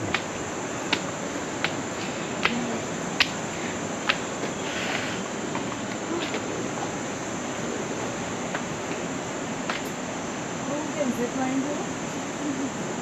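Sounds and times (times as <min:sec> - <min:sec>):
insects trilling: 0:00.0 - 0:13.0
steady hiss: 0:00.0 - 0:13.0.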